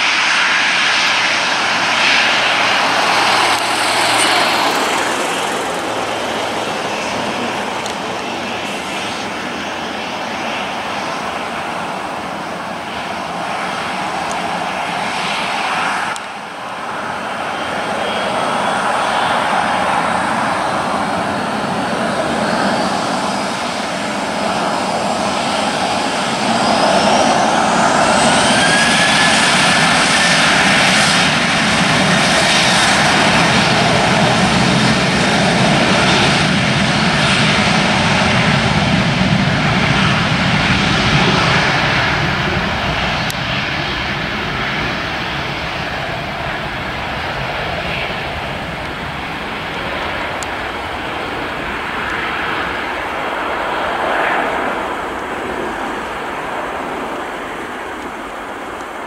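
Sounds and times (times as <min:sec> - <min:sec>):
jet engines spooling up: 0:00.0 - 0:59.0.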